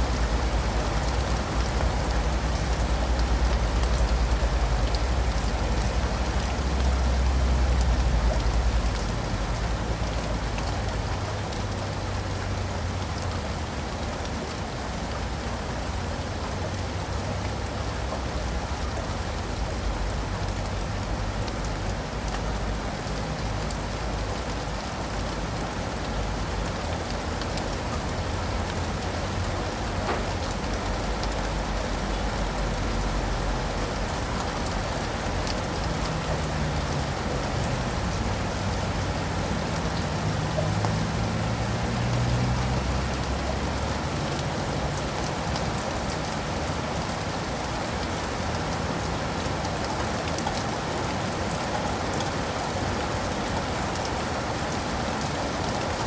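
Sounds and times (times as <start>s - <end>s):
rain on leaves and pavement: 0.0s - 56.0s.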